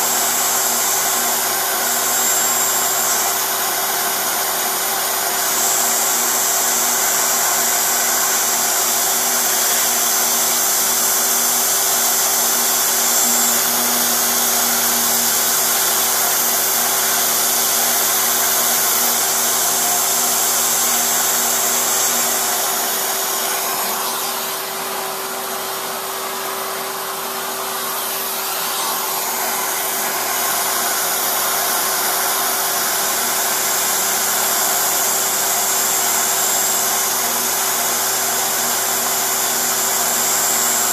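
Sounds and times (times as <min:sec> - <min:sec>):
milling spindle whine: 0:00.0 - 0:40.9.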